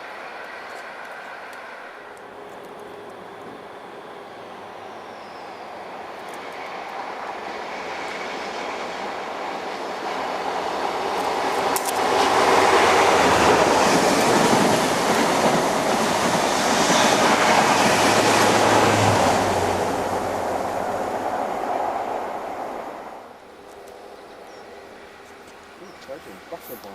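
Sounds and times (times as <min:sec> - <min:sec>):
diesel train passing: 0:00.0 - 0:26.9.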